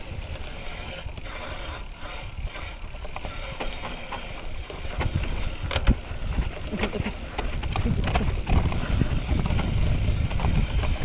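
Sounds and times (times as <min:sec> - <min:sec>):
bike clicks and rattles: 0:00.0 - 0:11.0
wind and tyres rumbling: 0:00.0 - 0:11.0.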